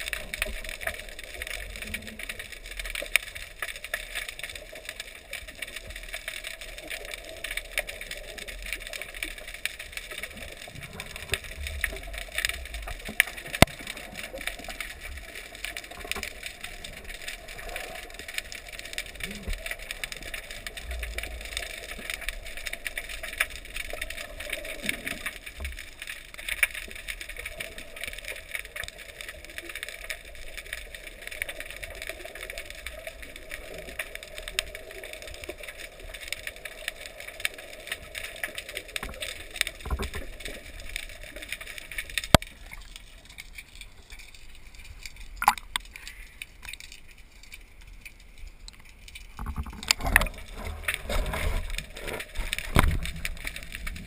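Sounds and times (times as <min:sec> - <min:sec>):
dense crackle of tiny clicks: 0:00.0 - 0:54.0.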